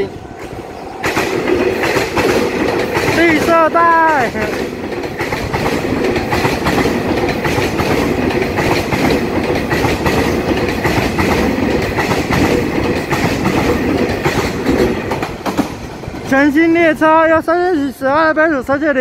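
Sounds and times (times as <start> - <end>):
train wheels rolling on rails: 0.0 - 19.0
rapid irregular clicks: 1.0 - 16.3.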